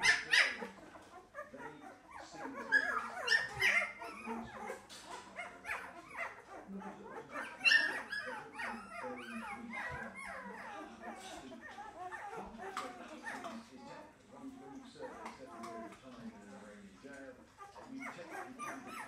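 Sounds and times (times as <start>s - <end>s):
puppies whimpering and yipping: 0.0s - 16.4s, 17.2s - 19.0s.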